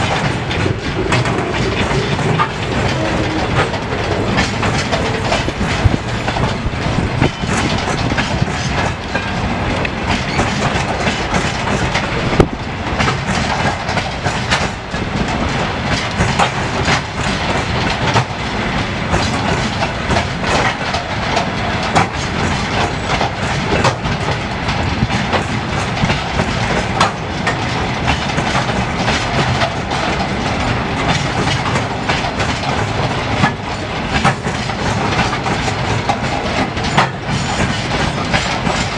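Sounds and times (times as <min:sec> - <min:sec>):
train wheels clacking over joints: 0:00.0 - 0:38.9.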